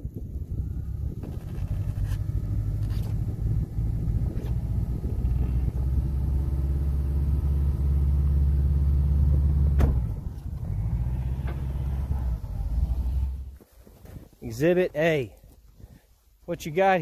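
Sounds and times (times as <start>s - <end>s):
vehicle engine humming: 0.0s - 13.7s.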